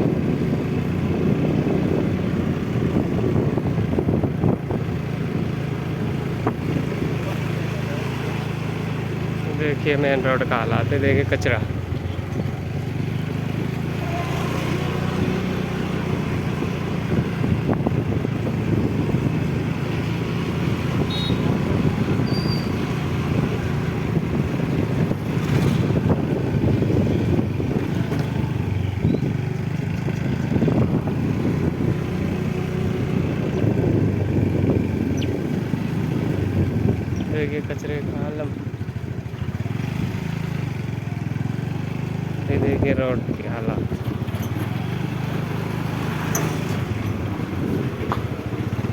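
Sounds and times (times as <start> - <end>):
road noise: 0.0 - 48.9
vehicle engine running: 0.0 - 48.9.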